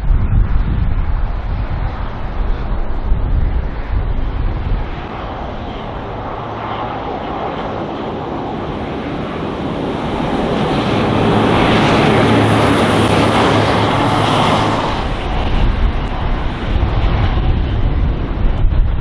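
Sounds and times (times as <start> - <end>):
train engine drone: 0.0 - 19.0
wind rumble on microphone: 0.0 - 19.0.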